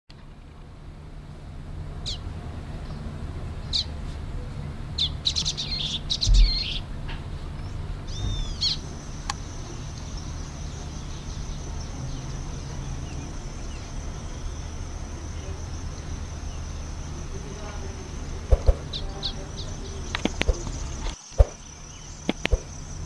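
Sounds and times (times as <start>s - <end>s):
low background rumble: 0.1s - 23.0s
small bird chirping: 2.0s - 23.0s.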